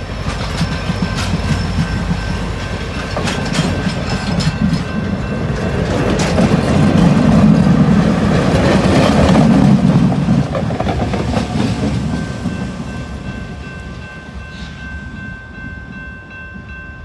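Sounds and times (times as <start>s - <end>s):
rail joint clicks: 0.0s - 14.9s
train wheels rumbling: 0.0s - 17.0s.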